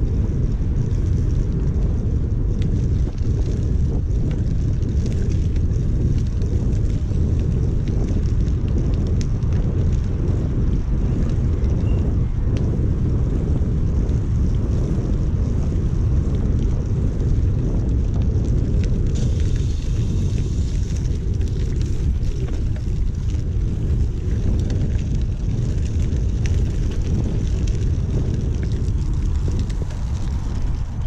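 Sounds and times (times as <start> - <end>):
bicycle tyre noise on path: 0.0 - 31.0
wind buffeting microphone: 0.0 - 31.0.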